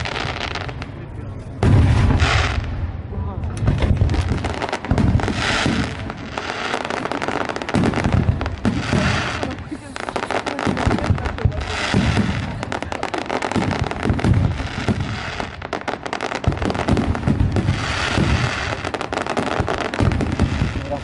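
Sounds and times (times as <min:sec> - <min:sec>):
deep firework booms: 0:00.0 - 0:21.0
fireworks bangs and crackling: 0:00.0 - 0:21.0.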